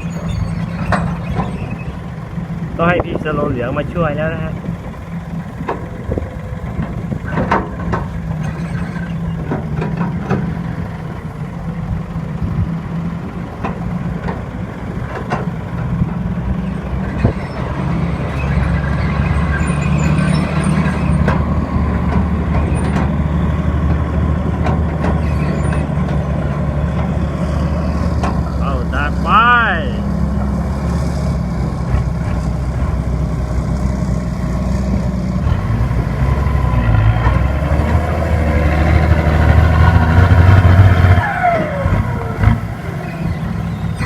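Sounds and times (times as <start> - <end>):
heavy diesel engines under load: 0.0 - 44.0.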